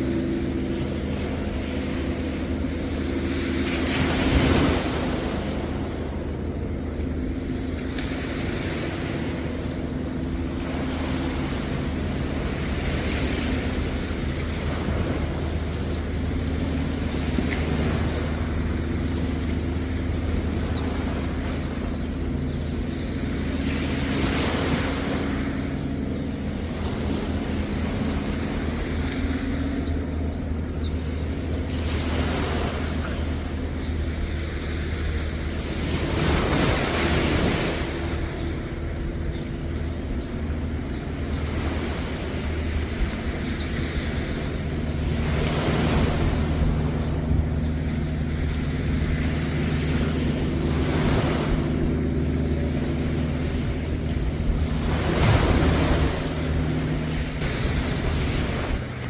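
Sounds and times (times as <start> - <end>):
sea waves washing onto beach: 0.0 - 29.8, 31.1 - 59.0
low engine hum: 0.0 - 59.0.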